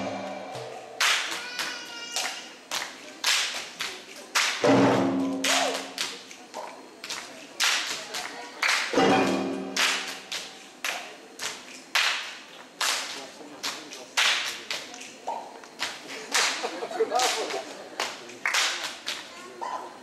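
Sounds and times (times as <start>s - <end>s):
people clapping in unison: 0.5s - 19.3s.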